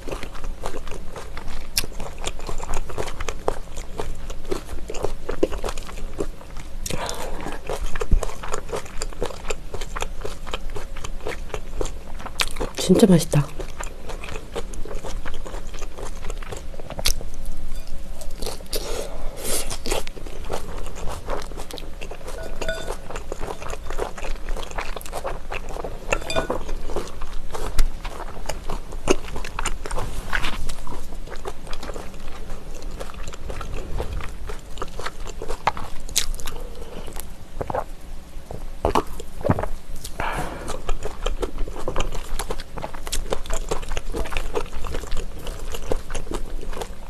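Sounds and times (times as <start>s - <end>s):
chewing with crunching and clicking: 0.0s - 47.0s.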